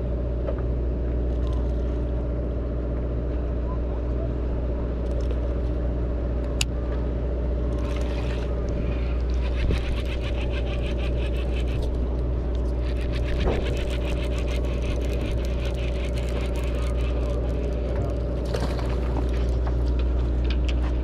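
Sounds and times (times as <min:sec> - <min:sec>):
boat machinery hum: 0:00.0 - 0:21.0.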